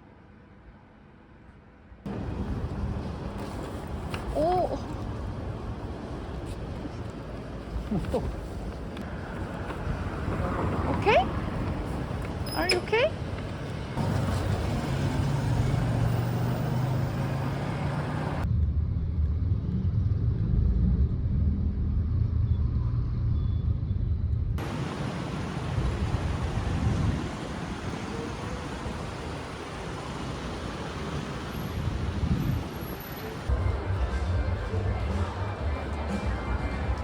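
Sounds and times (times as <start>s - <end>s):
road traffic rumble: 0.0s - 18.5s, 24.6s - 37.0s.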